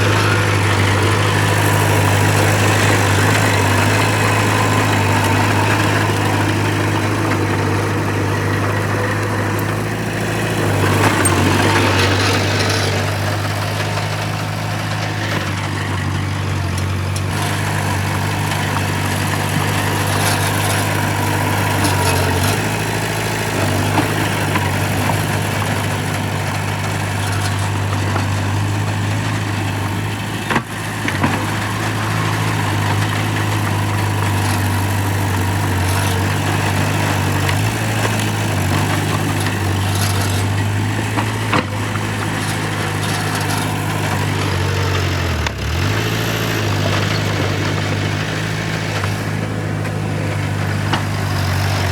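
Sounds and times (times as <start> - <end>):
heavy machinery diesel engine: 0.0 - 51.9.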